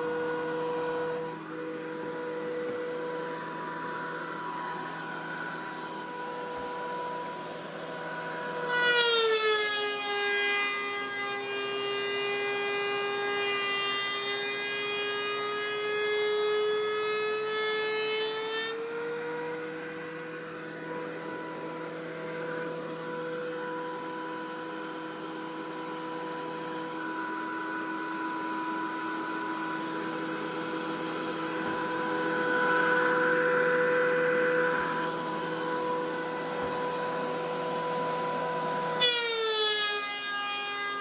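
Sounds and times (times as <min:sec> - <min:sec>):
thickness planer motor whine: 0:00.0 - 0:41.0.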